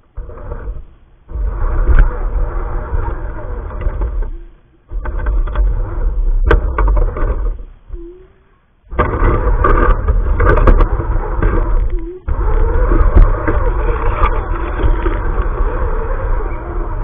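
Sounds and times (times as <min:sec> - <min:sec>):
electric toy truck motor and gears: 0:00.0 - 0:17.0.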